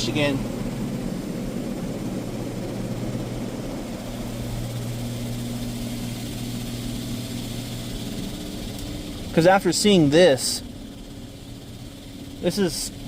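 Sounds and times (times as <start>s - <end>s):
pump machine hum: 0.0s - 13.0s.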